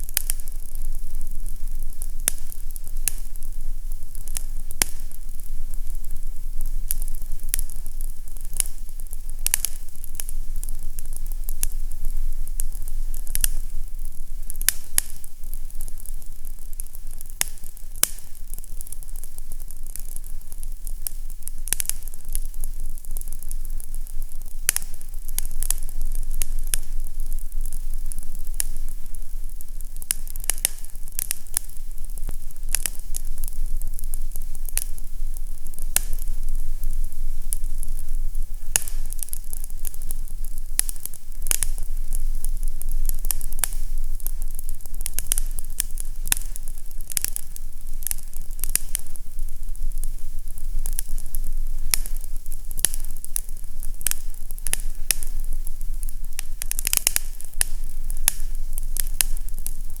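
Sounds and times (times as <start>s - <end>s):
fireplace crackling: 0.0s - 60.0s
steady low hum: 0.0s - 60.0s.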